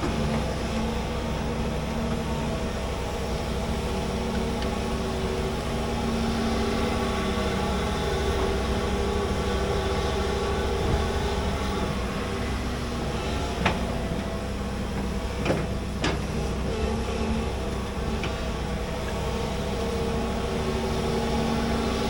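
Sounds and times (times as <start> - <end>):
excavator clanking: 0.0 - 22.0
excavator diesel engine running: 0.0 - 22.0.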